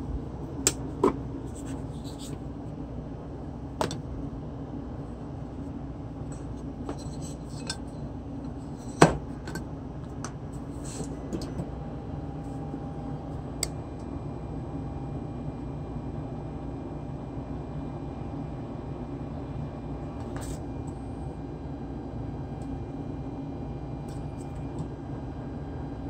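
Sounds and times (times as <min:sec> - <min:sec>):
heat gun fan hum: 0:00.0 - 0:26.0.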